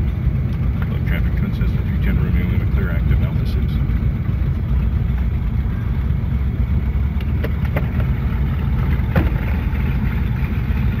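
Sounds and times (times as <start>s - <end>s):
aircraft piston engines droning: 0.0s - 11.0s.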